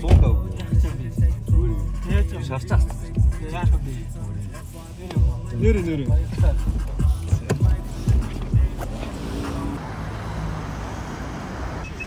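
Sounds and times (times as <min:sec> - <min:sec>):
hip-hop music with heavy bass: 0:00.0 - 0:09.8.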